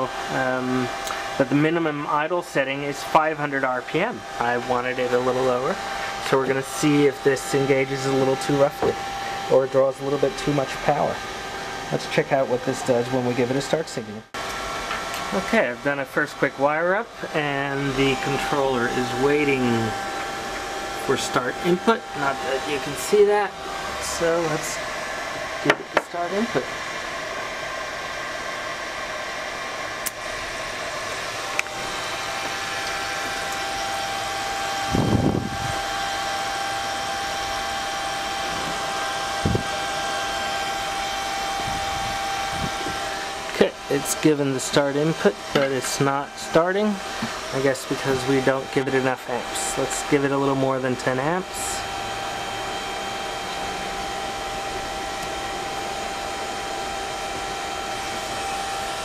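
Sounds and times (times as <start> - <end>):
fan whir: 0.0 - 59.0
thin steady whine: 0.0 - 59.0.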